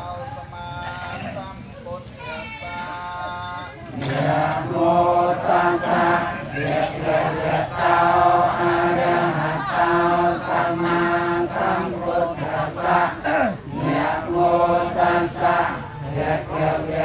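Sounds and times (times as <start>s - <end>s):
congregation chanting in unison: 2.6s - 17.0s.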